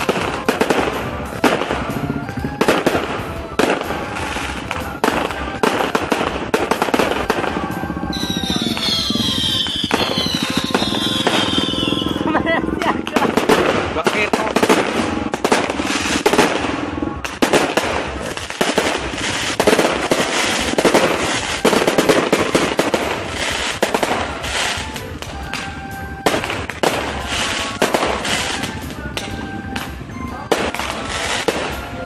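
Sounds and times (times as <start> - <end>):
firecrackers banging and crackling: 0.0 - 32.0.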